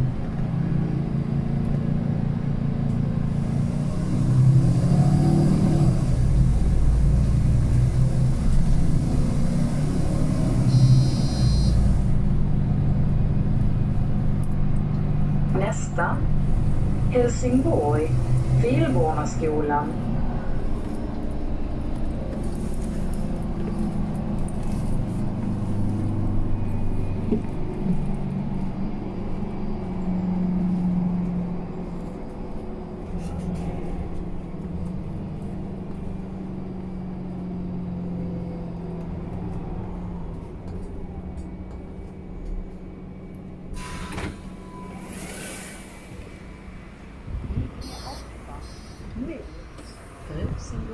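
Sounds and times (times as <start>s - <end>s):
bus engine drone: 0.0s - 50.9s.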